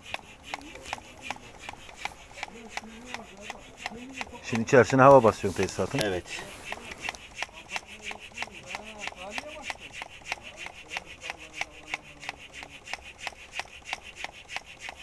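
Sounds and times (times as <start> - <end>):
hand air pump strokes: 0.0 - 15.0.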